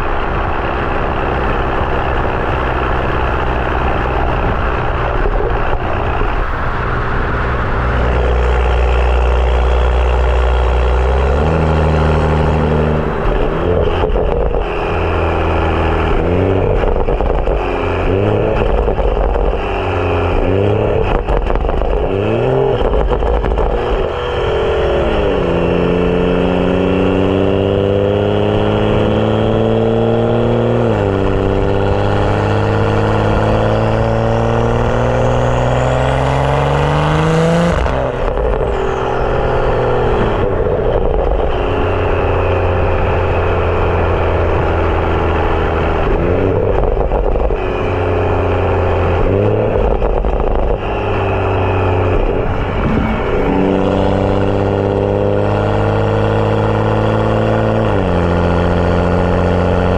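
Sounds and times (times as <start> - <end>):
car engine revving while driving: 0.0 - 59.9.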